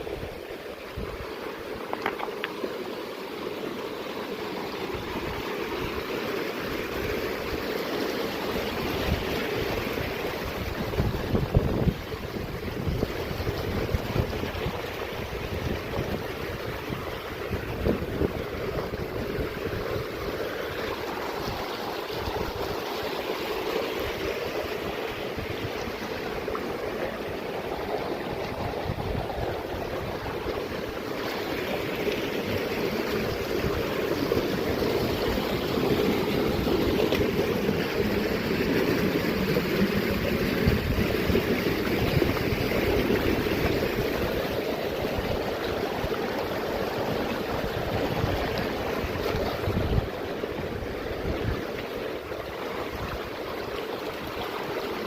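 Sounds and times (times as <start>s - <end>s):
mountain stream running water: 0.0s - 55.0s.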